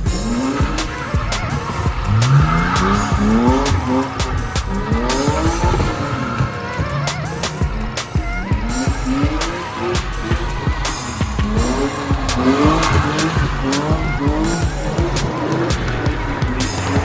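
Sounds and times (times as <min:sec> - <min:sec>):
car engine revving hard: 0:00.0 - 0:17.0
tyres squealing and skidding: 0:00.0 - 0:17.0.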